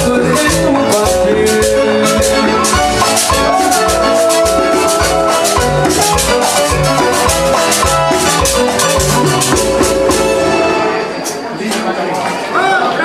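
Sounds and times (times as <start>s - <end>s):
pulsing bass line: 0.0s - 11.1s
drums and maracas: 0.0s - 11.5s
salsa band playing: 0.0s - 12.6s.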